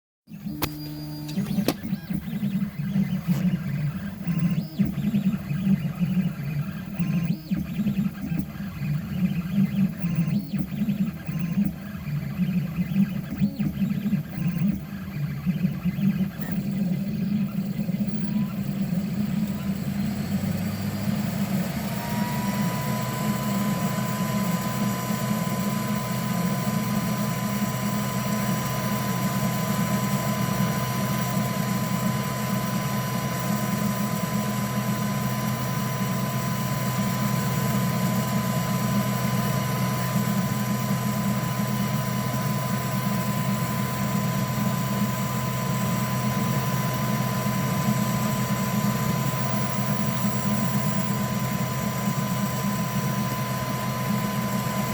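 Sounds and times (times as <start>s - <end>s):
printer fans and motors humming: 0.3s - 54.9s.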